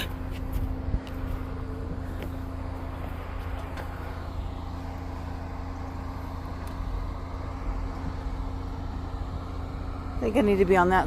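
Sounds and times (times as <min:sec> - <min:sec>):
vehicle engine running low revs: 0:00.0 - 0:11.0.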